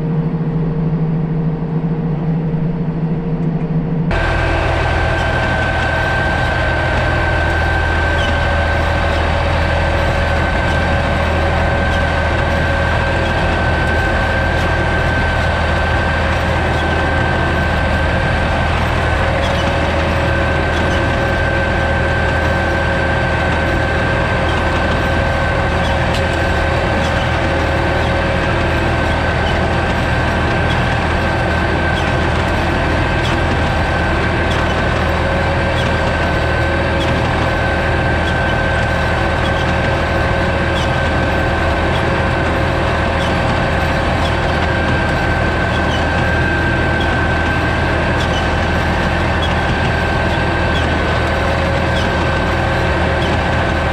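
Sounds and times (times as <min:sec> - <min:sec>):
steady high whine: 0:00.0 - 0:53.9
tractor diesel engine running: 0:04.1 - 0:53.9.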